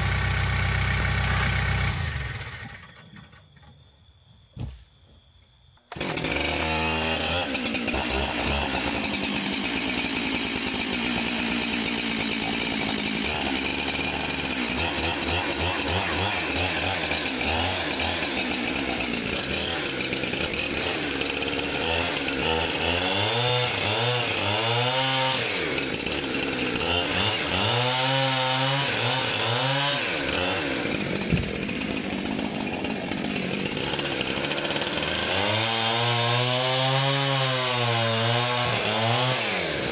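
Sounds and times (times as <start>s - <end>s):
chainsaw revving: 0.0s - 3.0s, 5.9s - 39.9s.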